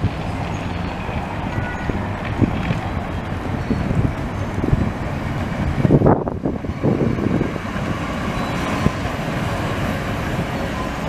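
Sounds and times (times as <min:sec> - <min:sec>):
tram wheels rumbling on rails: 0:00.0 - 0:11.0
wind buffeting microphone: 0:00.0 - 0:11.0.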